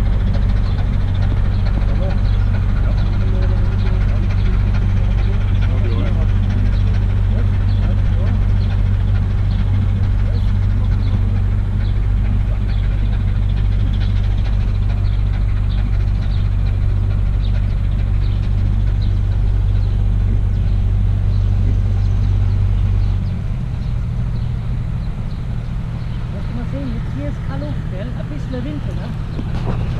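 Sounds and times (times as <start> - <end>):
engine idling drone: 0.0 - 29.9.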